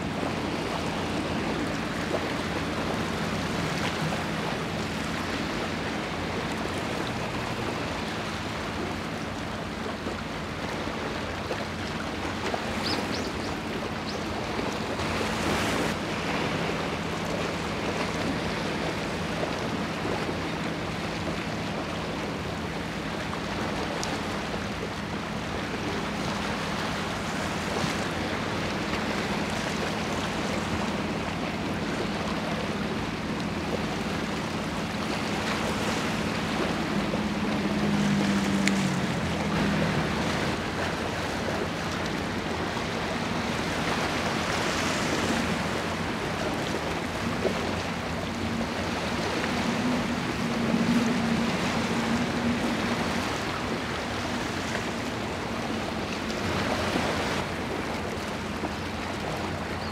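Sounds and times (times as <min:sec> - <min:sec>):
sea water washing: 0:00.0 - 0:59.9.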